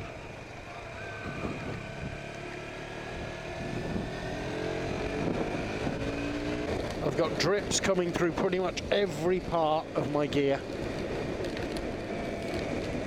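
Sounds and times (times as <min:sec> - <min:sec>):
low wind rumble: 0:00.0 - 0:13.0
motorcycle engine accelerating: 0:00.0 - 0:13.0.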